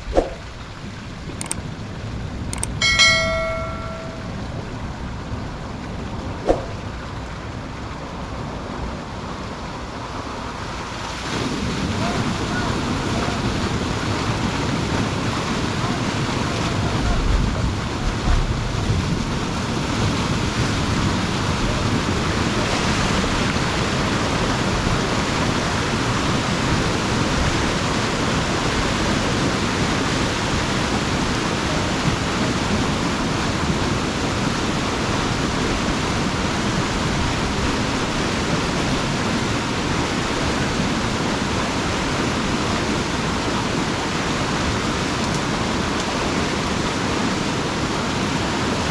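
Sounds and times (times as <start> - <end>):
water rushing through culvert: 0.0 - 48.9.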